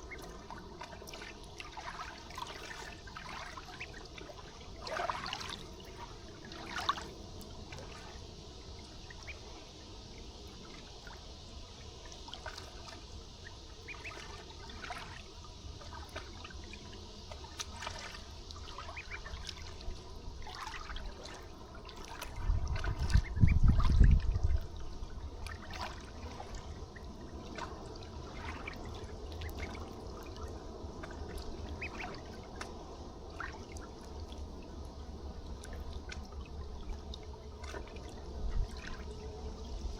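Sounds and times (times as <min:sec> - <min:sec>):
river water trickling and lapping: 0:00.0 - 0:39.9.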